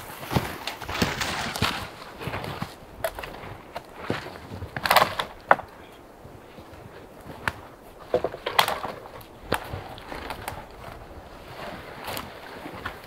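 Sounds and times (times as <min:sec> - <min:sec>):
branches scraping and rustling: 0:00.0 - 0:13.0
dry wood cracking and knocking: 0:00.0 - 0:13.0.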